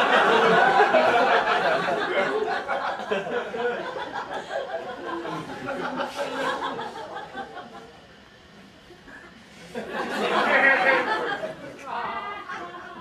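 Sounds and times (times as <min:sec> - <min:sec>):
audience laughing: 0:00.0 - 0:08.3, 0:08.9 - 0:13.0.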